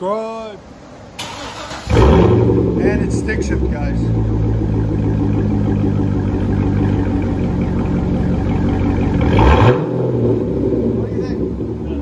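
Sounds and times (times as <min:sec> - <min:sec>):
car engine idling: 0:00.6 - 0:12.0
engine revving: 0:01.2 - 0:12.0.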